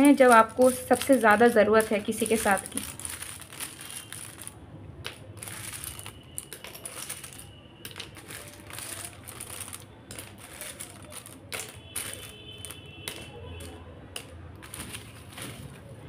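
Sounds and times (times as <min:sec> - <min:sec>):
paper slips rustling: 0:00.0 - 0:13.8, 0:14.6 - 0:15.9
plastic letters clattering: 0:00.0 - 0:16.0.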